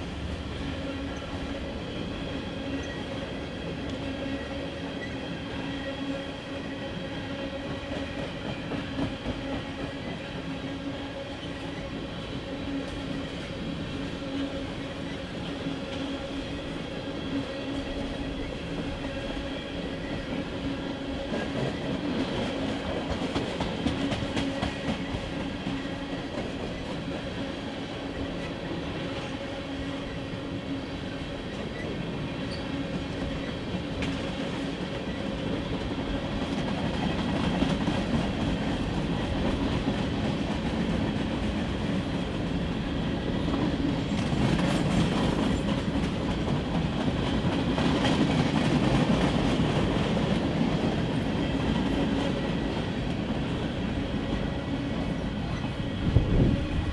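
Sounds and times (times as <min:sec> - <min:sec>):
freight train wheels on rails: 0:00.0 - 0:56.9.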